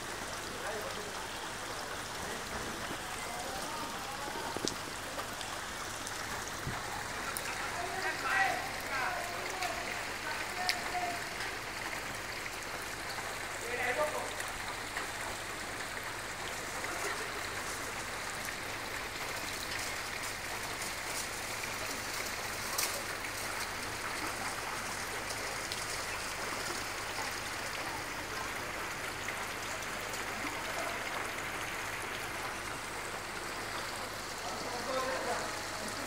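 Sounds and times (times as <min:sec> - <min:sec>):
flood water rushing: 0:00.0 - 0:36.0.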